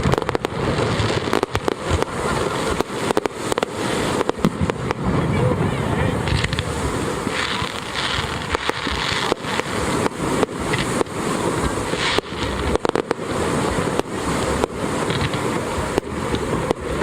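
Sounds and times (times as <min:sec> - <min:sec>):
fireworks bangs: 0:00.0 - 0:17.0
rumbling crackle: 0:00.0 - 0:17.0.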